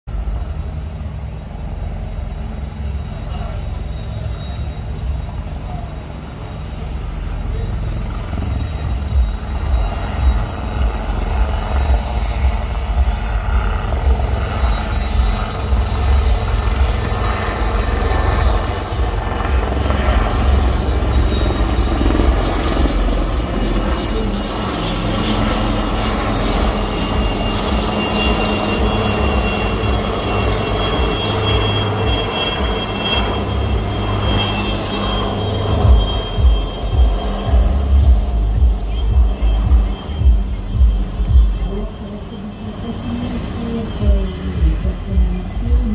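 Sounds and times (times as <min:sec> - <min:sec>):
high turbine whine: 0:00.0 - 0:45.9.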